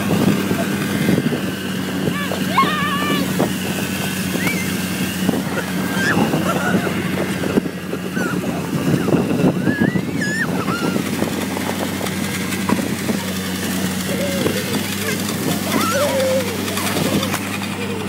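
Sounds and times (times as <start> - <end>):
sled scraping over snow: 0.0 - 18.0
small vehicle engine drone: 0.0 - 18.0.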